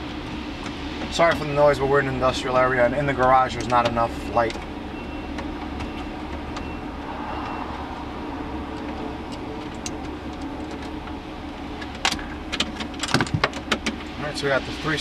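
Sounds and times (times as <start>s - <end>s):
low industrial rumble: 0.0s - 15.0s.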